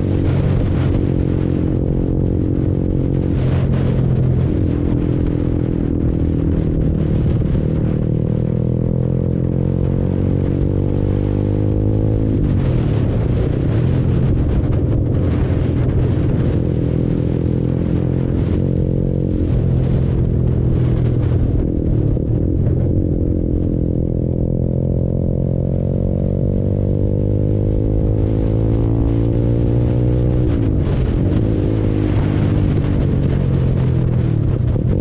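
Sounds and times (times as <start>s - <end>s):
motorcycle engine revving: 0.0s - 35.0s
wind rush: 0.0s - 35.0s.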